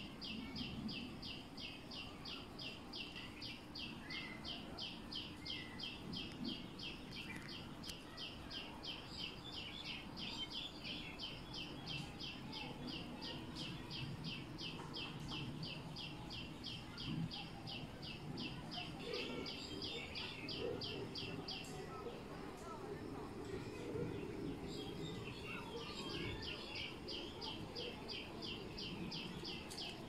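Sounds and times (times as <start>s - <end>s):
faint outdoor background noise: 0.0s - 30.0s.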